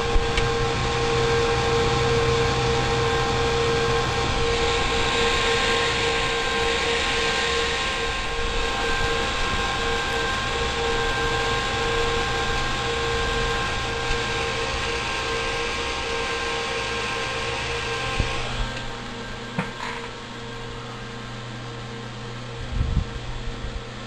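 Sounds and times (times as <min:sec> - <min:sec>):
cooling fans rushing: 0:00.0 - 0:24.0
fan whining tones: 0:00.0 - 0:24.0.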